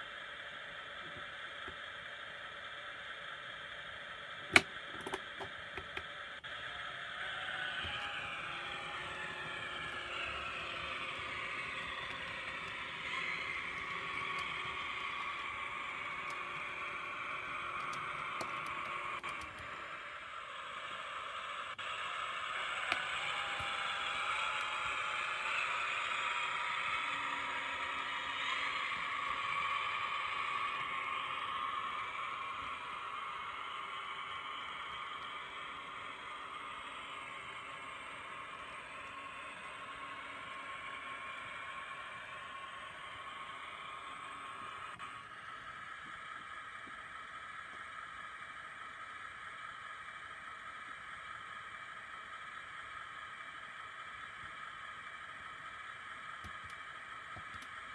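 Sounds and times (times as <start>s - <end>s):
model locomotive diesel idle drone: 0.0s - 57.9s.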